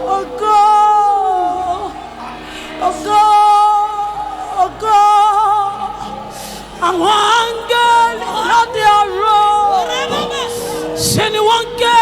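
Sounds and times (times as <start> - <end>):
soft accompaniment: 0.0 - 12.0
woman singing gospel song: 0.0 - 12.0.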